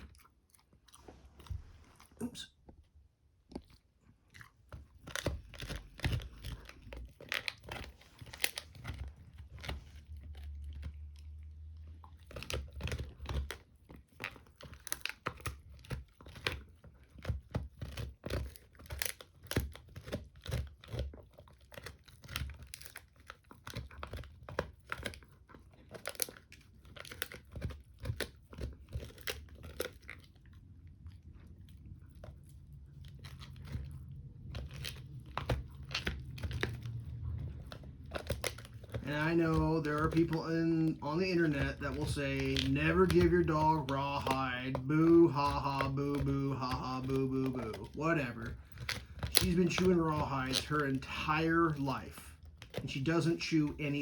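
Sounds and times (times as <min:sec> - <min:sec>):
dog gnawing on a bone: 0:00.0 - 0:54.0.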